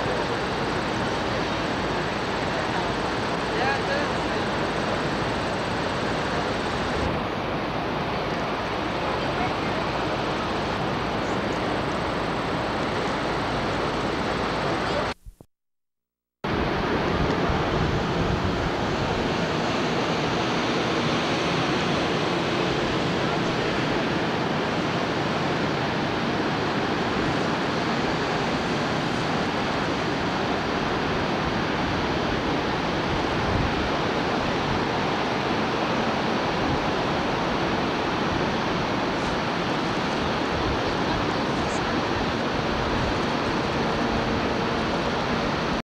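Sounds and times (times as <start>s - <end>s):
waterfall rushing: 0.0s - 15.1s, 16.5s - 45.8s.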